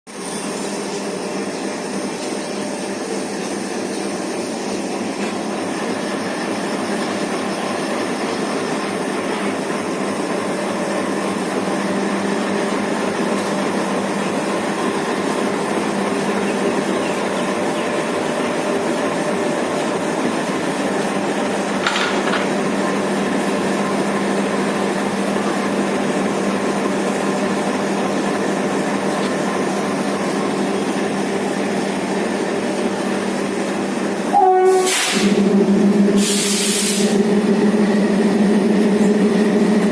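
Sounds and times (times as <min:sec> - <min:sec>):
diesel locomotive engine humming: 0:00.1 - 0:39.9.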